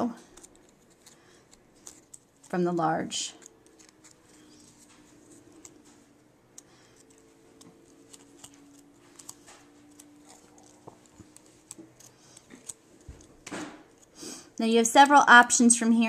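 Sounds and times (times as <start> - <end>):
faint steady hum: 0.0 - 16.0
paper petals crinkling: 0.2 - 14.2.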